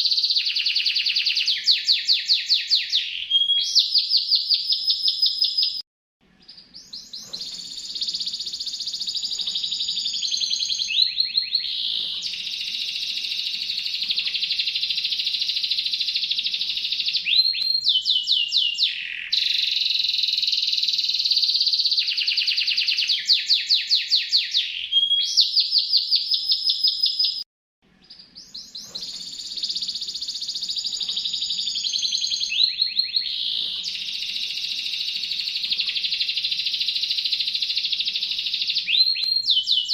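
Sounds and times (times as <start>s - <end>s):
canary singing trills: 0.0s - 5.8s, 6.4s - 27.4s, 28.0s - 39.9s.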